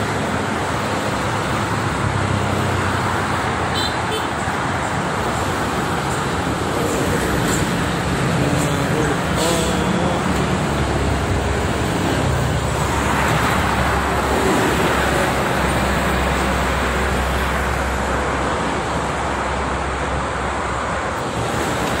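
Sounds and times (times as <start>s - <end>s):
heavy highway traffic: 0.0s - 22.0s.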